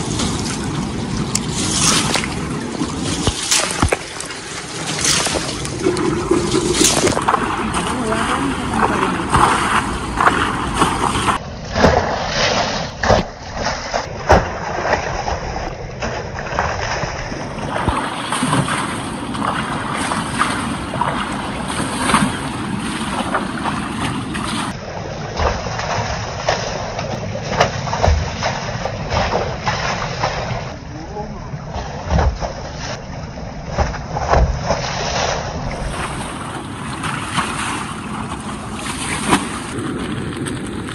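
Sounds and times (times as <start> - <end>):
water splashing: 0.0 - 40.9.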